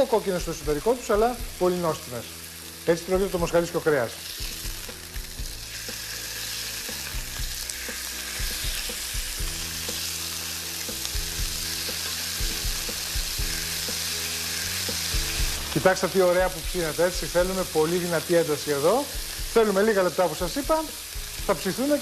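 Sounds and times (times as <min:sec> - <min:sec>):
steaks sizzling in a pan: 0:00.0 - 0:22.0.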